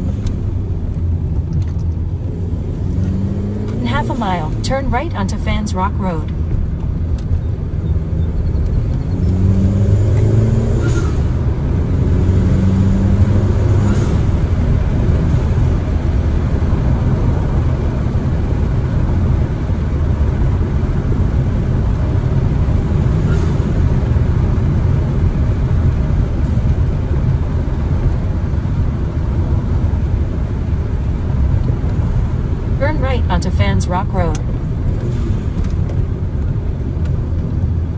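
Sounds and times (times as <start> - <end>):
road noise: 0.0 - 37.9
turbo car engine accelerating: 0.0 - 37.9.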